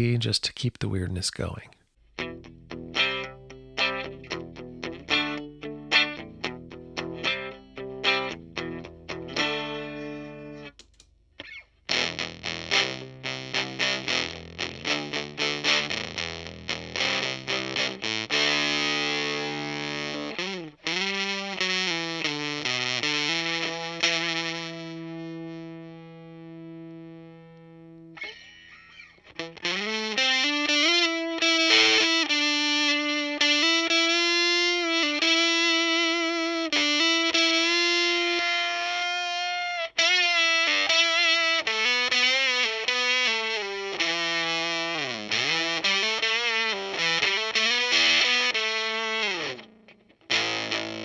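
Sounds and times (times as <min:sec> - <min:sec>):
fuzzy distorted electric guitar: 0:02.0 - 0:10.8, 0:11.4 - 0:51.0.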